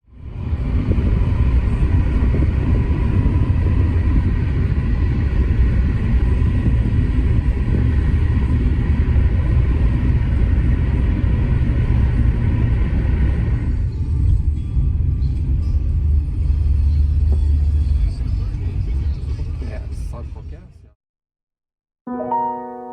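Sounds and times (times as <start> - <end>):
jet engine low rumble: 0.0 - 20.9.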